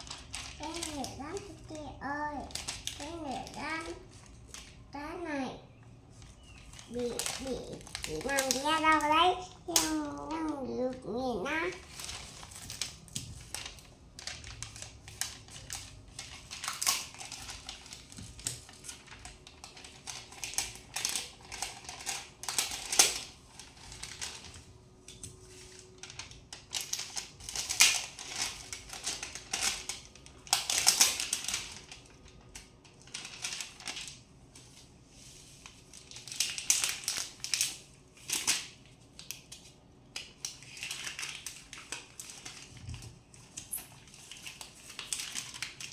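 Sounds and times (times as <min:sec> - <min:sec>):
sticker sheets crinkling: 0:00.0 - 0:04.9, 0:06.1 - 0:45.9.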